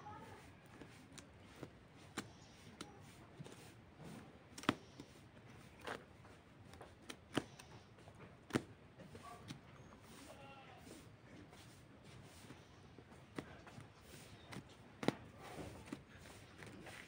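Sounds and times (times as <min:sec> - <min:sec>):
chickens pecking at ground: 0:00.0 - 0:17.0.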